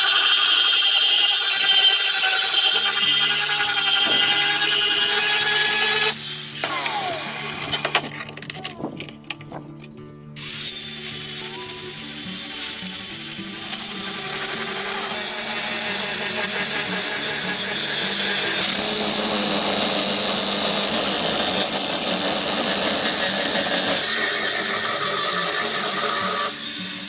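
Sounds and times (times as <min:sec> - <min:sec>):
power tool on steel: 0:00.0 - 0:08.8, 0:10.4 - 0:27.0.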